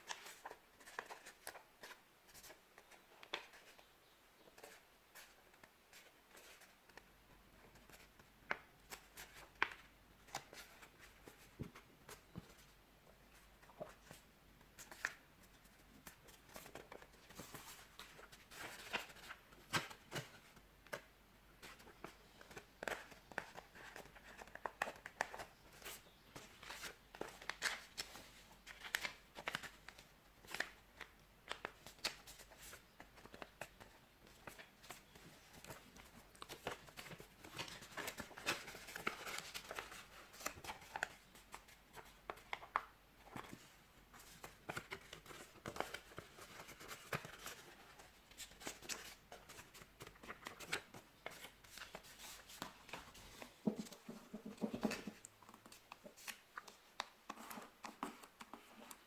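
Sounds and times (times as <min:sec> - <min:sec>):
paper rustling and crinkling: 0:00.0 - 0:03.8, 0:14.8 - 0:21.0, 0:21.6 - 0:59.0.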